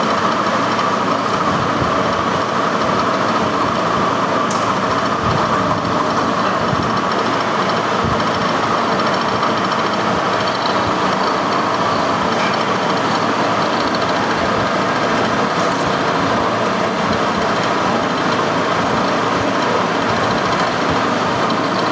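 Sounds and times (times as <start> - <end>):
metalworking machine running: 0.0 - 21.9.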